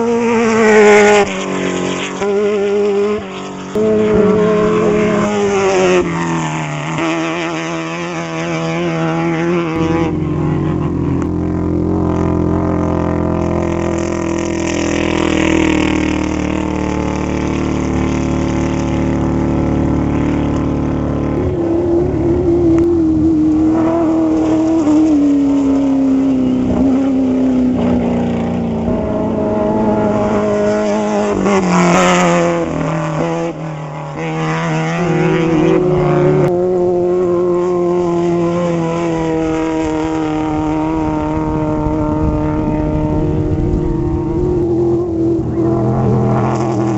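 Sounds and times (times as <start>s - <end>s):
race vehicle engines revving: 0.0s - 46.9s.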